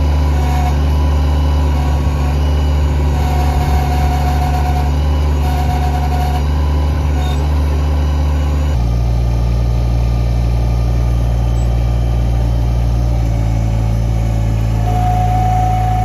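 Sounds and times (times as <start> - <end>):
high whine: 0.0 - 9.0, 10.8 - 16.0
tractor diesel engine running: 0.0 - 16.0.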